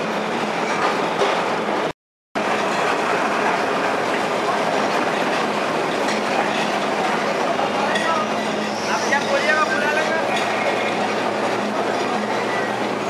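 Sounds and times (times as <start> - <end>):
tram wheels on rails: 0.0 - 13.0.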